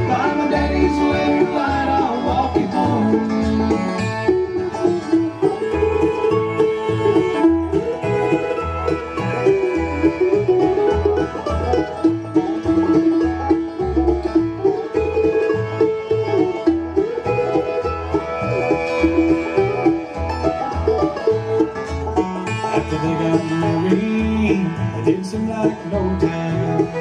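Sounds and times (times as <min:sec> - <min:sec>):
banjo picking: 0:00.0 - 0:27.0
fiddle-like bowed melody: 0:00.0 - 0:27.0
guitar: 0:00.0 - 0:27.0.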